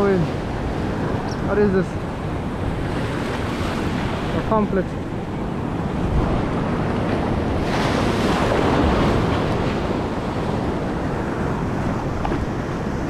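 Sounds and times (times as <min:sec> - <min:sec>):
surf washing over sand: 0:00.0 - 0:13.0
wind buffeting microphone: 0:00.0 - 0:13.0.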